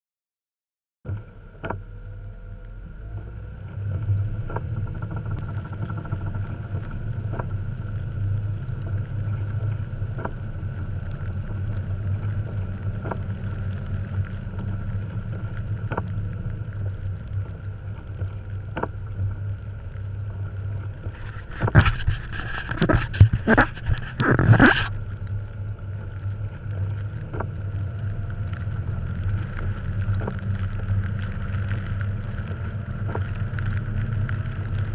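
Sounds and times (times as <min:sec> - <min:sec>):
car engine running: 0:01.1 - 0:34.9.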